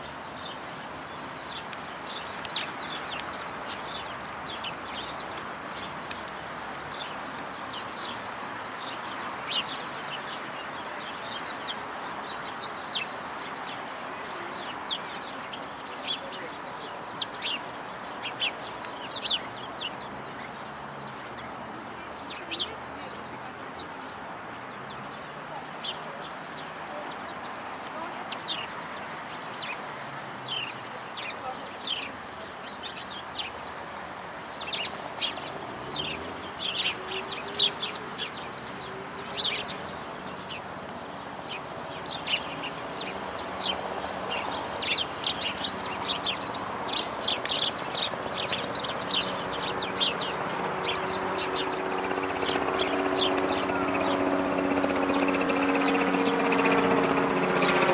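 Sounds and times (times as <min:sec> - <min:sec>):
city noise hum: 0:00.0 - 0:57.9
sparrows chirping: 0:00.0 - 0:57.9.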